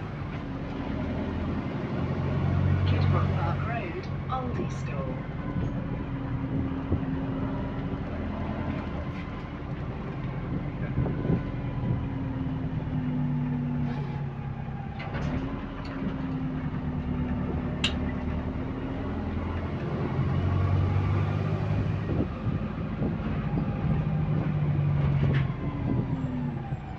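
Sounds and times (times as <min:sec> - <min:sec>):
bus engine with leaking exhaust: 0:00.0 - 0:26.9.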